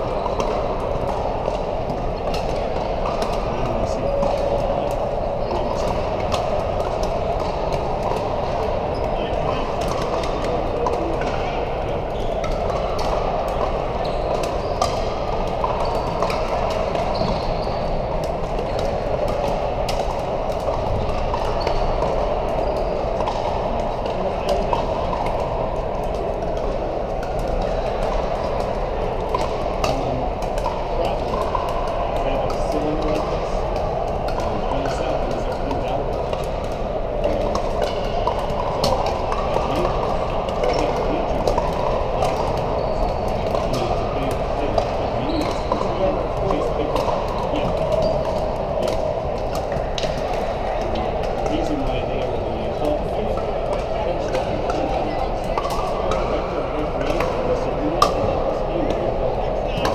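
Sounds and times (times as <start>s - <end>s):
murmur of voices: 0.0s - 59.9s
paddles hitting plastic balls: 0.0s - 59.9s.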